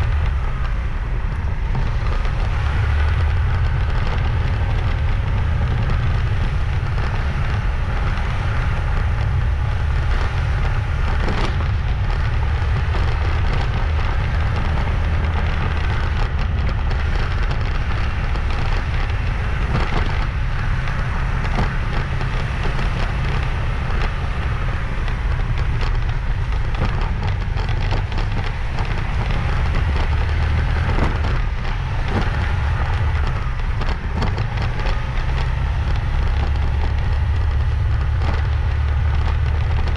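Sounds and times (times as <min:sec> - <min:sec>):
motorbike engine: 0:00.0 - 0:39.9
wind buffeting microphone: 0:00.0 - 0:39.9.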